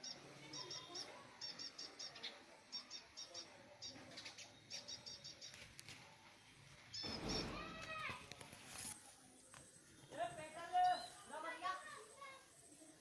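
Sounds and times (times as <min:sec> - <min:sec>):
small bird chirping: 0:00.0 - 0:05.8, 0:06.8 - 0:08.1, 0:09.3 - 0:13.0.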